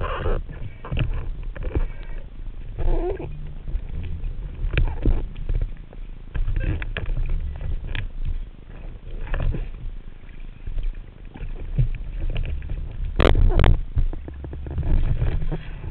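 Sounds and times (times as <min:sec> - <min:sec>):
underwater clicks and knocks: 0:00.0 - 0:15.9.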